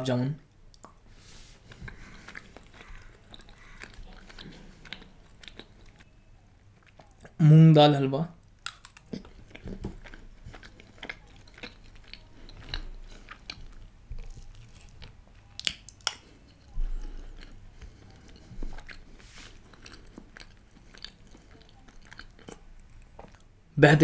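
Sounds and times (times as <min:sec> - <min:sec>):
person chewing with wet smacks: 0:00.7 - 0:07.4, 0:08.4 - 0:23.5.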